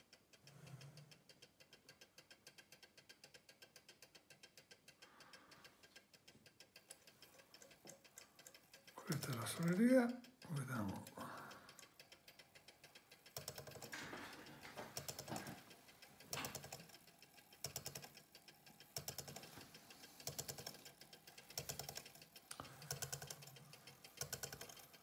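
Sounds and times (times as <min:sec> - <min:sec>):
clock ticking faintly: 0:00.0 - 0:25.0.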